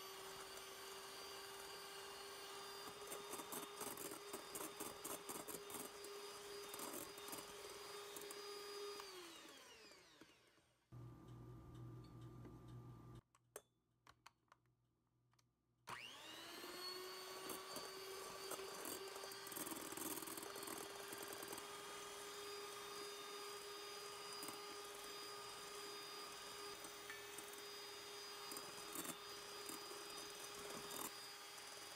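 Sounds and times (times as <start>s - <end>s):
stand mixer motor whirring: 0.0s - 10.6s, 15.9s - 31.9s.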